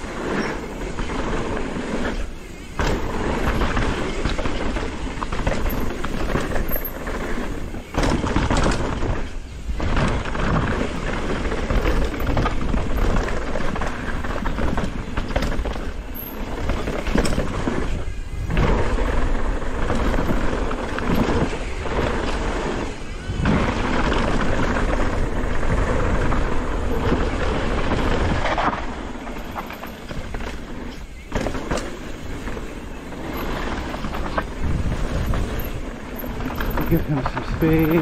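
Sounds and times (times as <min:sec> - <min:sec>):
bike tyre noise: 0:00.0 - 0:38.0
wind over microphone: 0:00.0 - 0:38.0
bike knocking over rough ground: 0:00.5 - 0:38.0.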